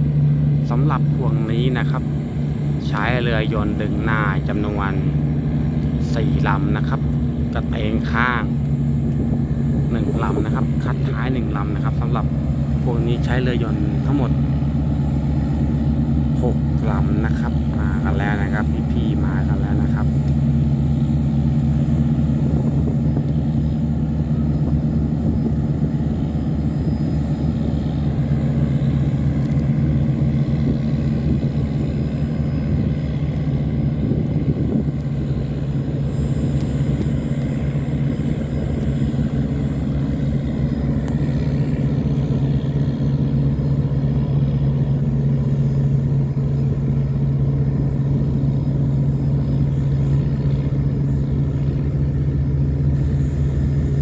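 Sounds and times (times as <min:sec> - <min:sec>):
diesel engines droning: 0:00.0 - 0:54.0.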